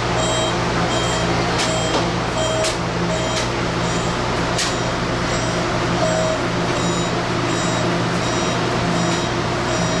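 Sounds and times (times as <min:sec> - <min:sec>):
low equipment hum: 0:00.0 - 0:10.0.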